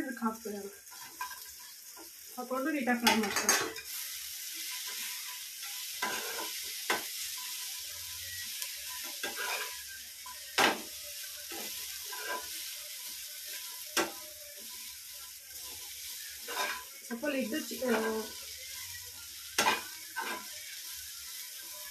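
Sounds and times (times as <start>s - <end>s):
vegetables sizzling in oil: 0.0s - 21.9s
spatula scraping pan: 0.9s - 2.0s, 4.7s - 14.9s, 15.6s - 21.9s.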